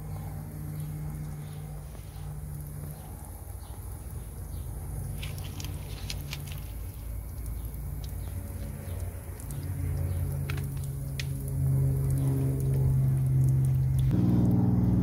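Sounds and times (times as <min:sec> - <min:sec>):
water pattering on wooden deck: 0:00.0 - 0:14.1
low hum: 0:00.0 - 0:15.0
sharp water drop ticks: 0:00.7 - 0:14.6.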